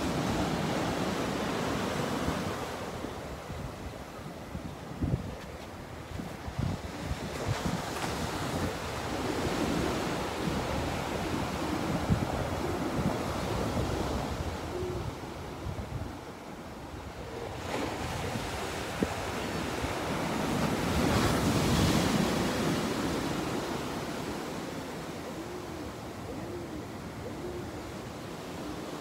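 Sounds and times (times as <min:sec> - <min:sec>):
waves breaking on sandy beach: 0:00.0 - 0:04.6, 0:05.6 - 0:29.0.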